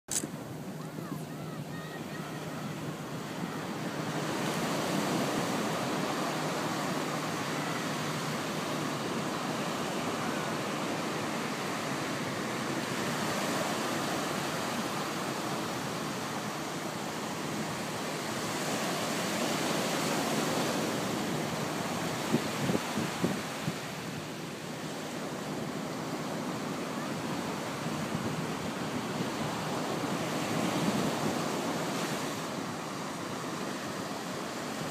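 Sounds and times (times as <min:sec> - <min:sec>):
ocean surf breaking on beach: 0:00.2 - 0:34.9.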